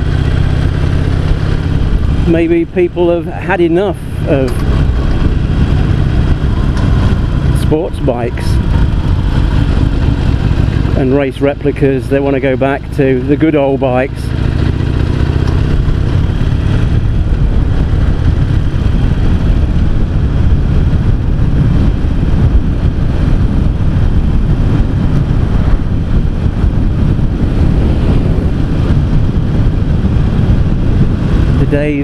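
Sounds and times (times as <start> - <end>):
motorcycle engine running: 0.0 - 32.0
wind noise: 0.0 - 32.0.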